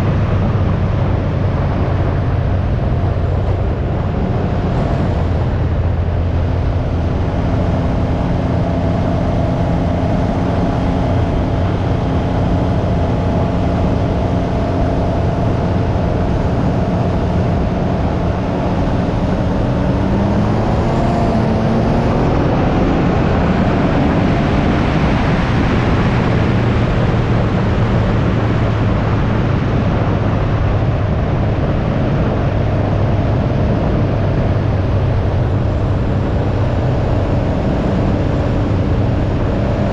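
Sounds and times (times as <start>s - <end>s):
motorcycle engine on the move: 0.0s - 39.9s
wind rush: 0.0s - 39.9s.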